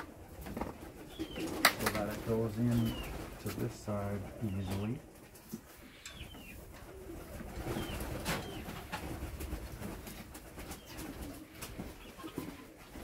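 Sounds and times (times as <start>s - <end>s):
pigeons cooing: 0.0s - 5.0s, 5.7s - 13.0s.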